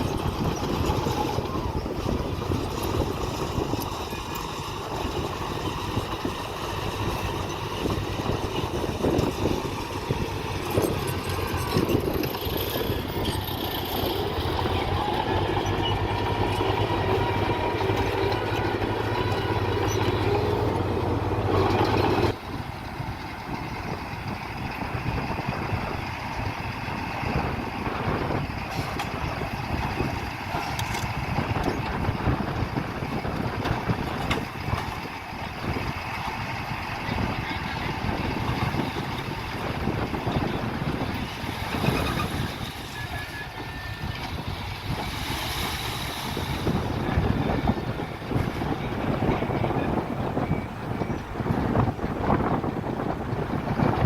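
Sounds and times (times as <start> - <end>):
diesel engines running: 0.0 - 54.0
rough engine sound: 0.0 - 54.0.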